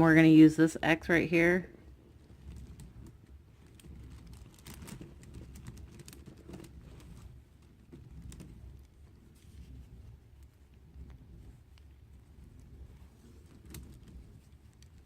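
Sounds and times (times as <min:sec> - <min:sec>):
fabric rustling: 0:01.8 - 0:15.0.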